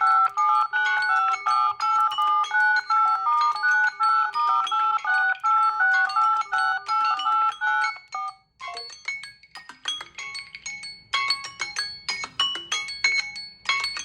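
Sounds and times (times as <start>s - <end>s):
electronic ringtone melody: 0.0s - 14.0s
ringtone of short notes: 0.0s - 14.0s.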